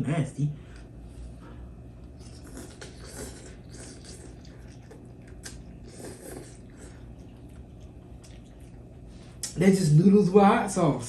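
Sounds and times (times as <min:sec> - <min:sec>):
people chewing noodles: 0:00.7 - 0:09.6
soft slurp: 0:00.7 - 0:09.6.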